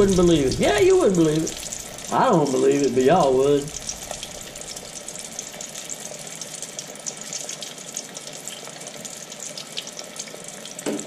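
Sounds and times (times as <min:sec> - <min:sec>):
deep-frying sizzle with crackles: 0:00.0 - 0:11.0.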